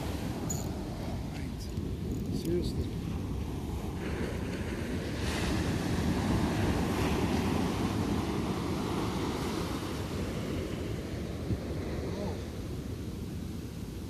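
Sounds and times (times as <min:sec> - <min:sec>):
surf washing up beach: 0:00.0 - 0:14.0
wind rumbling on microphone: 0:00.0 - 0:14.0.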